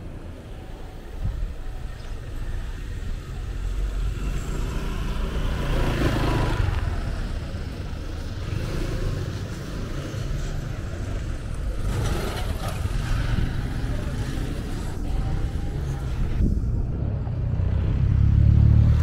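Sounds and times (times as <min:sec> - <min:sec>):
traffic rumble: 0:00.0 - 0:19.0
vehicle passing by: 0:03.3 - 0:19.0.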